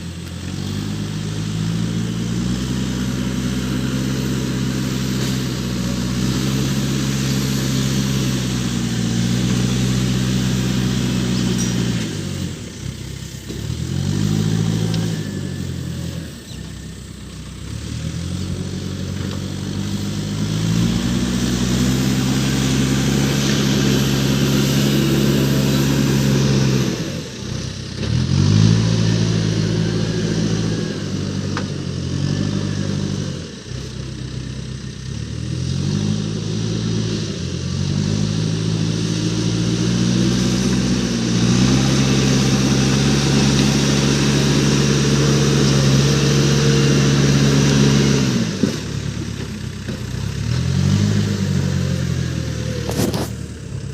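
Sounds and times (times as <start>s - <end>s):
backhoe diesel engine under load: 0.0s - 53.9s.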